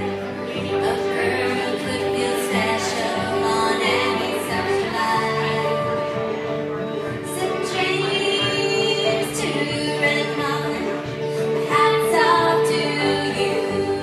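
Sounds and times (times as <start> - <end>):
acoustic string band playing: 0.0 - 14.0.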